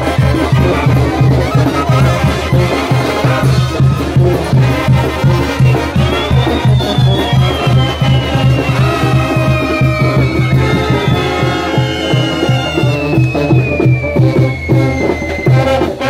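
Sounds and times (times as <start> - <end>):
brass band playing dance tune: 0.0 - 16.0.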